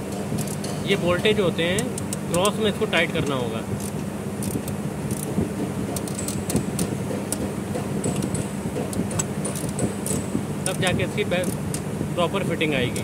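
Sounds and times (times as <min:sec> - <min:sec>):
low background hum: 0:00.0 - 0:13.0
hand tool clicking on bolts: 0:00.1 - 0:02.6, 0:03.2 - 0:11.9.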